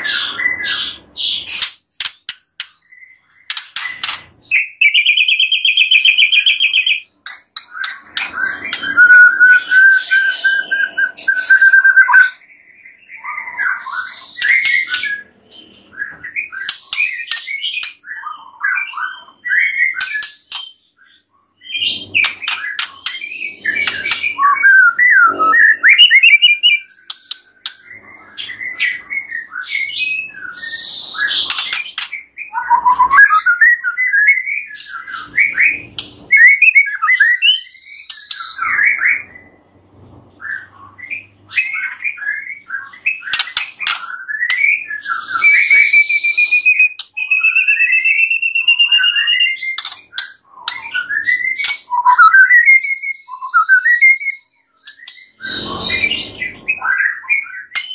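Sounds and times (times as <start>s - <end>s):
bird singing whistled song: 2.6s - 39.4s, 40.4s - 57.9s.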